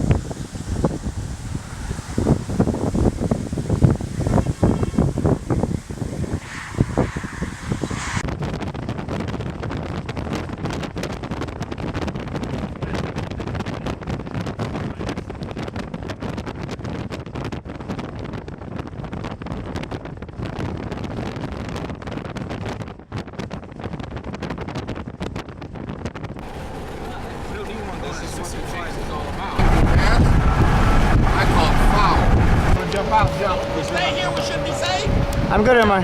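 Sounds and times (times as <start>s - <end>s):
gusty wind on microphone: 0.0s - 36.0s.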